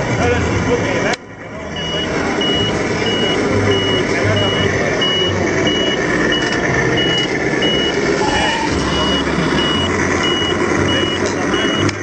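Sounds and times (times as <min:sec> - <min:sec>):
reverse warning beeps: 0:01.7 - 0:12.0.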